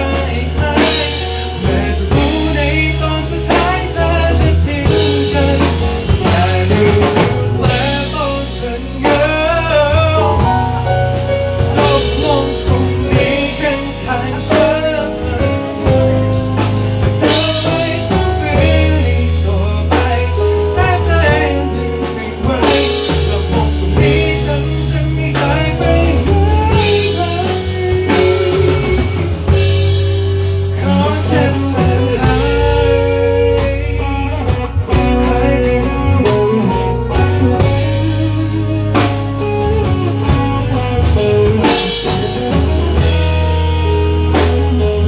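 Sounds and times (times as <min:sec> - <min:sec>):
live pop-rock band playing: 0:00.0 - 0:45.0.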